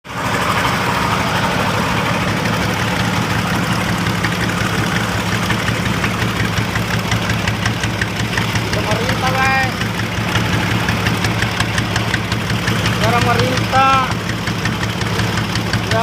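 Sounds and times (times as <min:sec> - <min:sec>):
boat engine idling: 0:00.0 - 0:16.0
faint regular ticking: 0:02.5 - 0:16.0.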